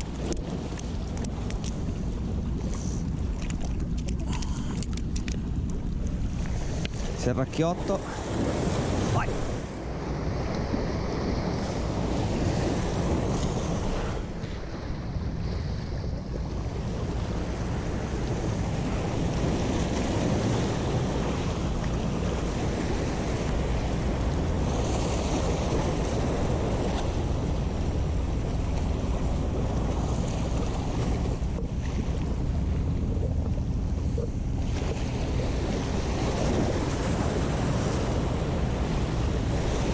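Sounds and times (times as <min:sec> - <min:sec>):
waves breaking against rocks: 0:00.0 - 0:39.9
wind buffeting microphone: 0:00.0 - 0:39.9.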